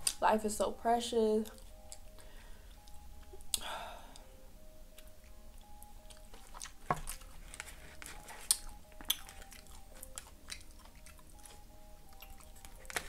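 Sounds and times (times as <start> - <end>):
person chewing food: 1.4 - 13.0.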